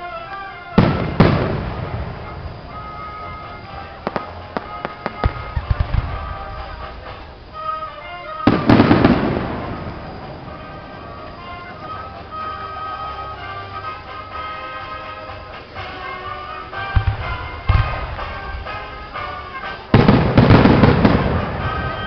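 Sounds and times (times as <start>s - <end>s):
fireworks crackling pops: 0.0s - 22.0s
music playing: 0.0s - 22.0s
fireworks booming: 0.7s - 14.5s, 15.3s - 22.0s.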